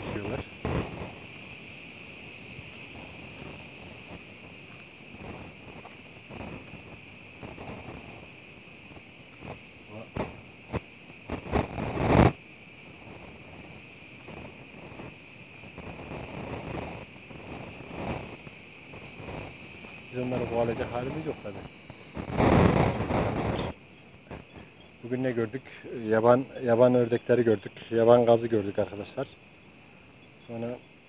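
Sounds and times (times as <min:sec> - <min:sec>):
insects singing: 0:00.0 - 0:31.0.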